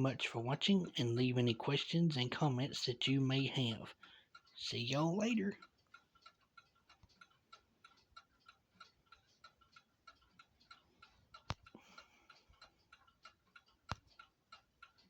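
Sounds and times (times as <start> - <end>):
clock ticking: 0.0 - 15.0
sharp clock clicks: 0.0 - 15.0.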